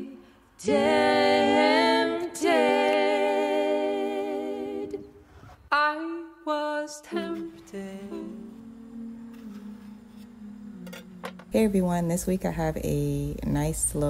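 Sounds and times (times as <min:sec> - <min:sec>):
a cappella singing voice: 0:00.0 - 0:11.8.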